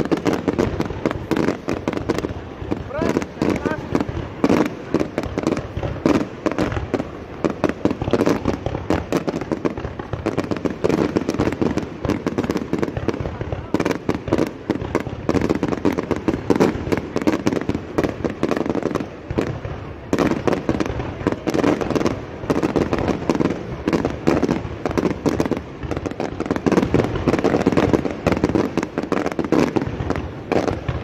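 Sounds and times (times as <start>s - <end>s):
fireworks bursting and crackling: 0.0s - 31.0s.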